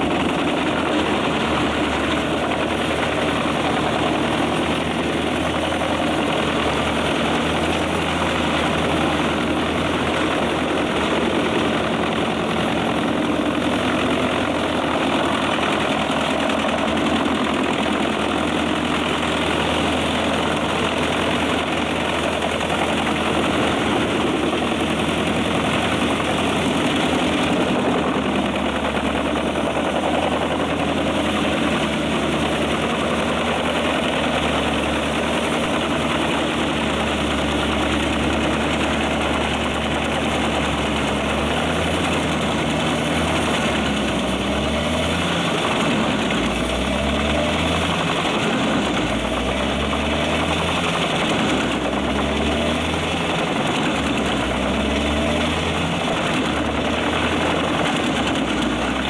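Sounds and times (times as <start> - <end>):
diesel engine running: 0.0 - 59.0
wood chipper shredding logs: 0.0 - 59.0.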